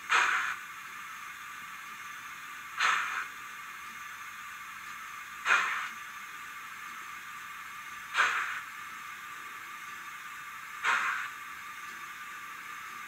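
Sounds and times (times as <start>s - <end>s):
model steam exhaust chuffs: 0.0s - 13.0s
steady hiss: 0.0s - 13.0s.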